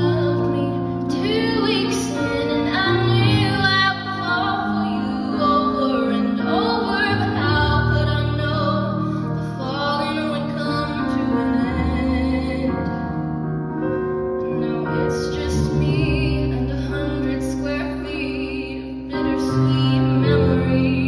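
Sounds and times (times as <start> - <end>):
woman singing a ballad: 0.0 - 13.2, 14.5 - 21.0
instrumental accompaniment: 0.0 - 21.0.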